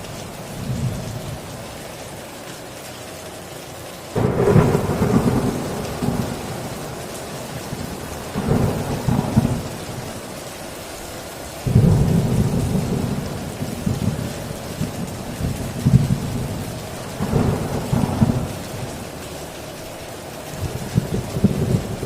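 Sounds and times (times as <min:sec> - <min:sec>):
thunder rumbling: 0:00.0 - 0:01.8, 0:04.2 - 0:10.7, 0:11.6 - 0:22.0
heavy rain on a tin roof: 0:00.0 - 0:22.0.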